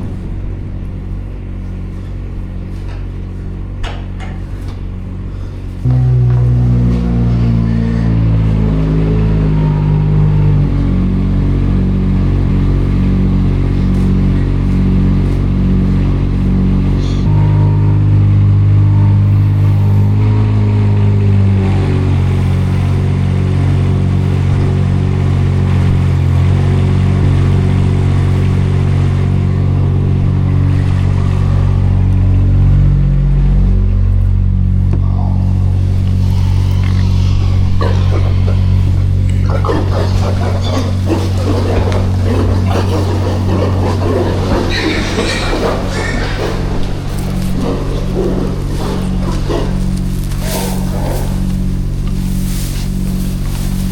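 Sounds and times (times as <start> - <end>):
tractor engine revving: 0.0 - 53.9.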